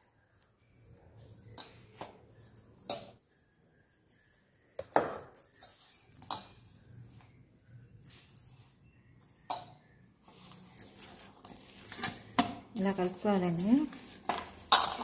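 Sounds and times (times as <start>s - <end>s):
steel bowls and bangles clinking: 0.0s - 15.0s.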